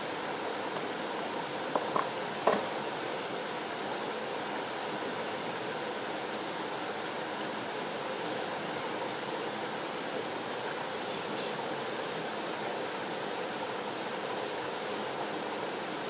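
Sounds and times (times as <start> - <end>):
waterfall and stream rushing: 0.0 - 16.0.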